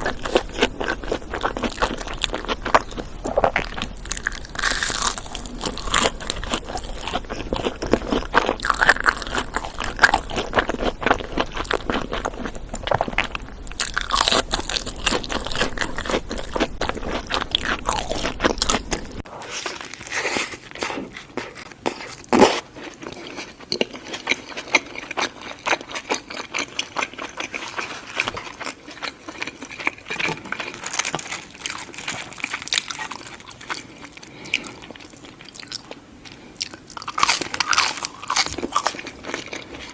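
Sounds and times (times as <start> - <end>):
crunching and chewing food: 0.0 - 39.9
low background hum: 0.0 - 39.9.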